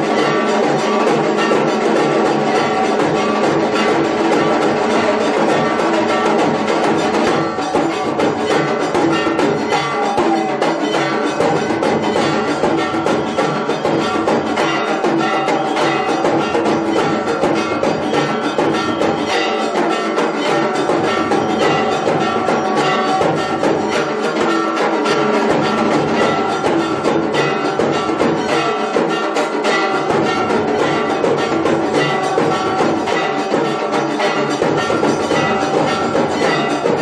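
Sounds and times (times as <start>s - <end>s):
bells ringing: 0.0s - 37.0s
clanging percussion: 0.0s - 37.0s
drums: 0.0s - 37.0s.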